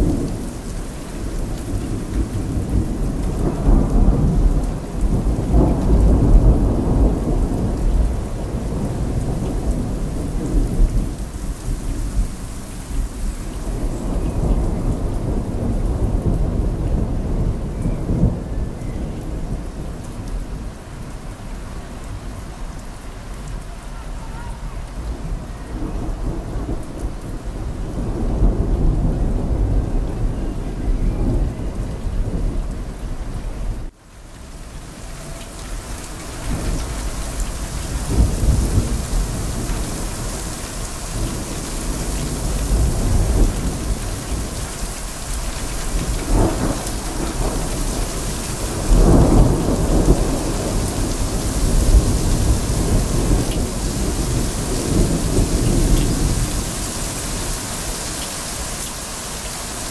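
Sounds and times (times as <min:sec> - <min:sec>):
thunder rumbling: 0:00.0 - 0:22.2, 0:23.4 - 0:33.9, 0:35.0 - 0:59.9
steady rain: 0:00.0 - 0:59.9.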